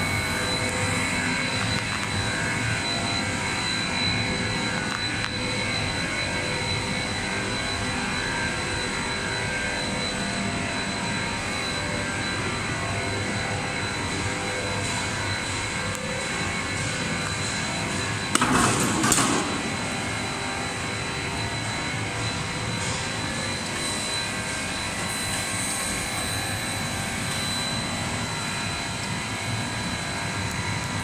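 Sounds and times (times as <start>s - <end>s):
factory machinery din: 0.0s - 31.0s
high machine whine: 0.0s - 31.0s.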